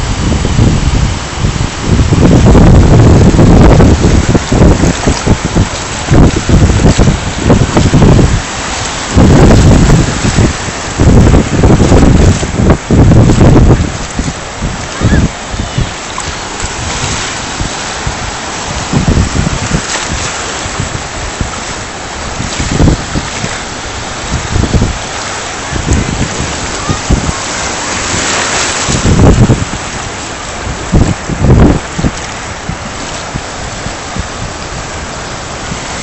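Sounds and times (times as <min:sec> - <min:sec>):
surf breaking in shallows: 0:00.0 - 0:36.0
wind buffeting microphone: 0:00.0 - 0:36.0.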